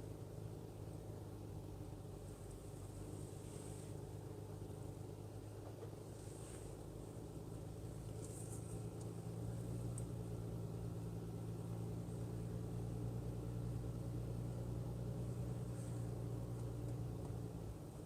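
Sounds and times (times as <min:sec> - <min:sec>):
car engine and tyre hum: 0:00.0 - 0:18.0.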